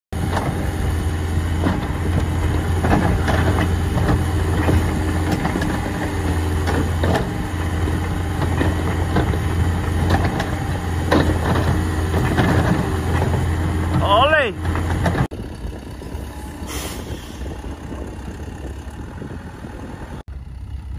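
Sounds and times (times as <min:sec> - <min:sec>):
mini excavator engine running: 0:00.2 - 0:20.9.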